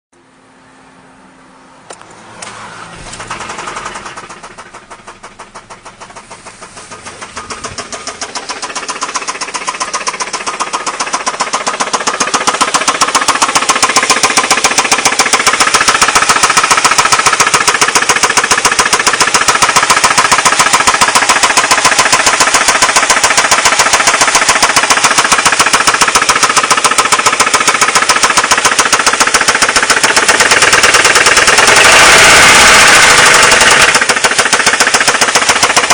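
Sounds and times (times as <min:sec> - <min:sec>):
car engine rattling knock: 0:03.0 - 0:35.9.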